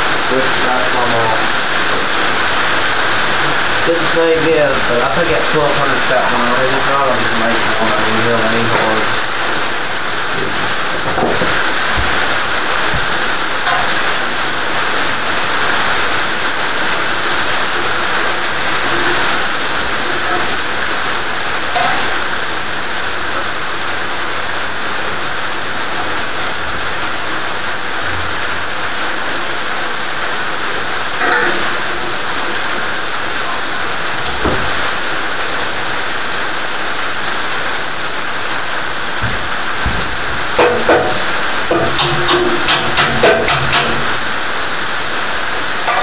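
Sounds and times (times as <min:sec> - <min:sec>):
steady rain: 0:00.0 - 0:46.0.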